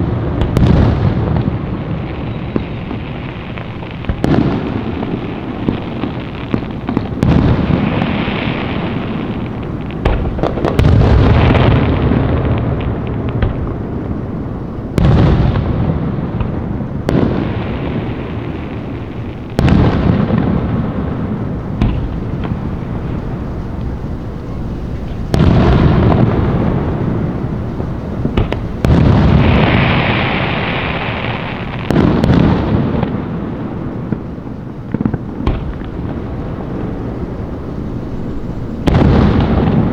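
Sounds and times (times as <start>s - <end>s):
fireworks bangs: 0.0s - 39.9s
hissing crackle: 0.0s - 39.9s
rolling rumble: 0.0s - 39.9s.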